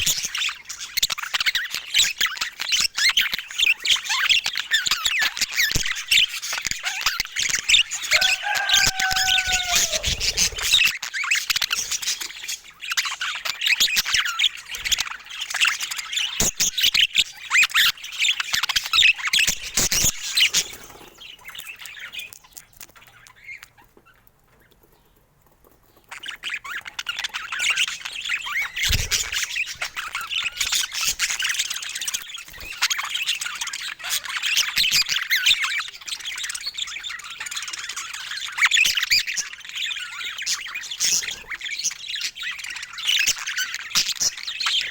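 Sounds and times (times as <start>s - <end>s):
budgerigars chattering: 0.0s - 24.3s, 25.9s - 44.9s.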